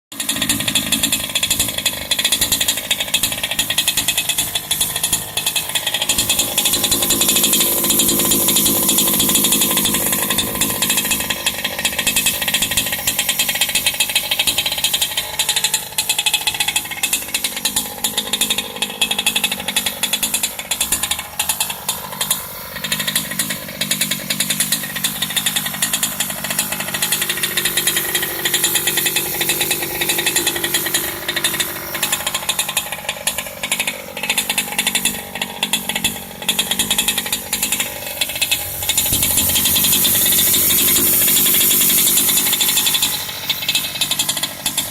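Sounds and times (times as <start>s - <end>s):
pull start rapid clicking: 0.1s - 44.9s
small engine idling: 0.1s - 44.9s.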